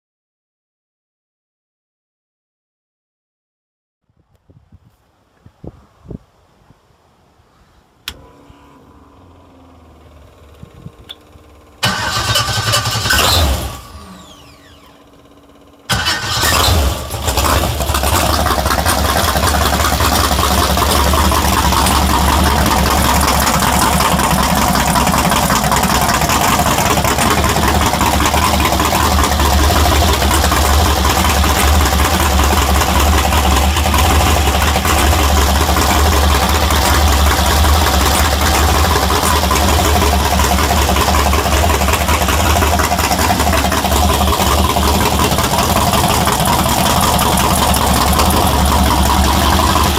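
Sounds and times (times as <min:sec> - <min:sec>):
boat engine starting and idling: 0:08.0 - 0:49.9.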